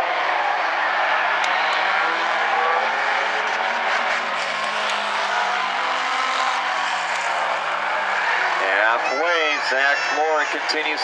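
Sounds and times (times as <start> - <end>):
race car engines: 0.0 - 11.0.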